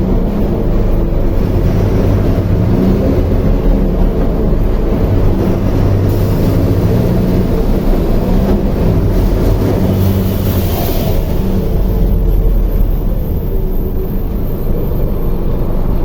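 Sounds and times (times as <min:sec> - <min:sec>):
diesel bus engine droning: 0:00.0 - 0:16.0.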